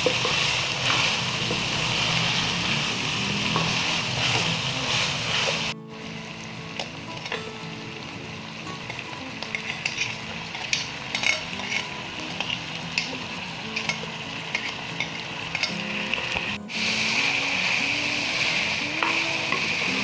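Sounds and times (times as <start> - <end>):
meat sizzling in hot oil: 0.0 - 5.7, 8.8 - 20.0.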